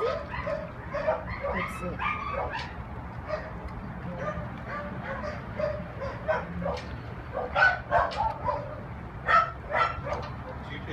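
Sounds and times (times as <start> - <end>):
dogs barking and whining: 0.0 - 10.7.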